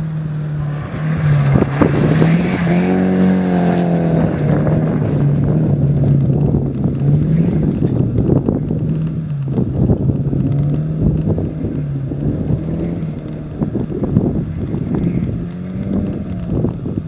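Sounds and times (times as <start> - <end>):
rally car engine changing gear: 0.0 - 17.0
wind buffeting microphone: 0.0 - 17.0.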